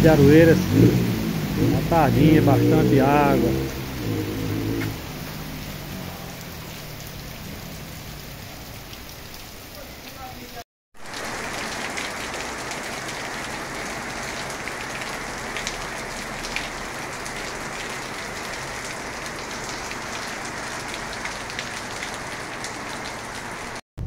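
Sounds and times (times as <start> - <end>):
steady rain falling: 0.0 - 23.8.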